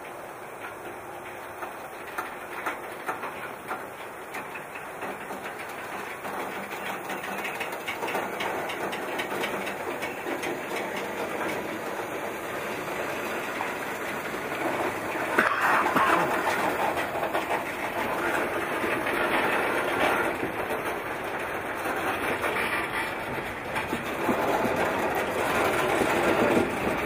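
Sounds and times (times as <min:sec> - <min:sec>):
low rumble of freight cars: 0:00.0 - 0:27.0
steel wheels clicking over rails: 0:00.0 - 0:27.0.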